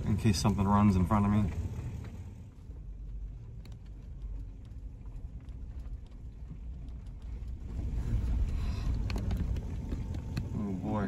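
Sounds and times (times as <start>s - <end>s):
gravel ticking under wheels: 0.0s - 11.0s
van driving on dirt road: 0.0s - 11.0s.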